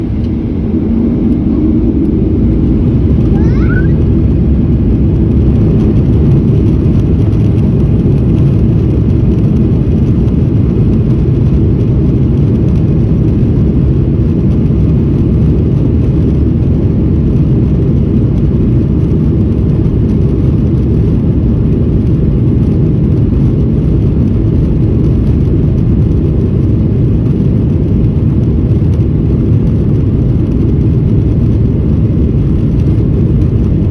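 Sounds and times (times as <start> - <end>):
jet engines at takeoff thrust: 0.0 - 33.9.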